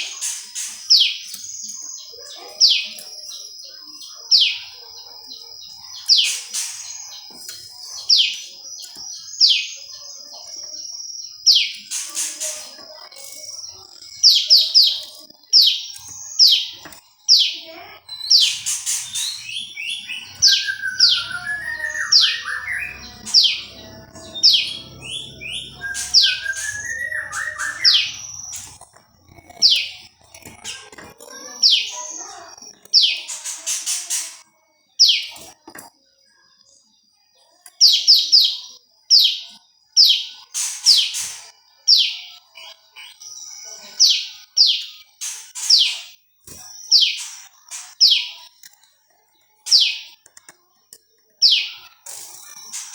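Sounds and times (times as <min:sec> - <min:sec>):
bird twittering: 0:00.0 - 0:35.6, 0:37.8 - 0:48.4, 0:51.4 - 0:52.9
bird chirping: 0:00.0 - 0:35.8, 0:36.6 - 0:52.9.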